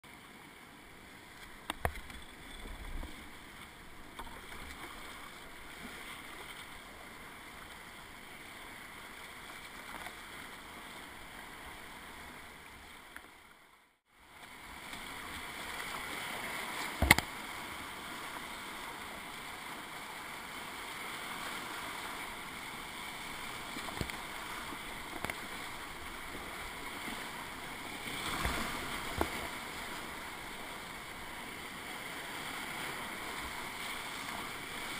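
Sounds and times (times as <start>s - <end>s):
paddle strokes splashing: 1.3s - 13.2s, 14.5s - 34.9s.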